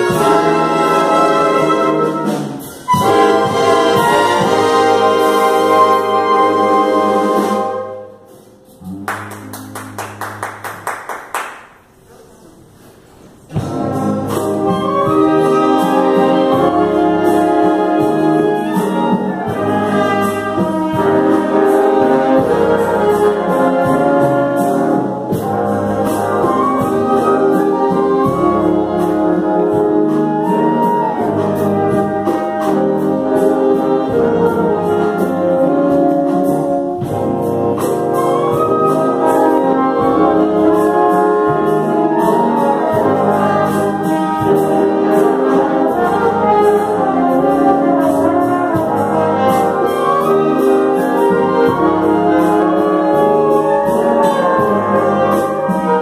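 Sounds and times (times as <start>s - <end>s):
wind band playing: 0.0s - 11.0s, 13.5s - 56.0s.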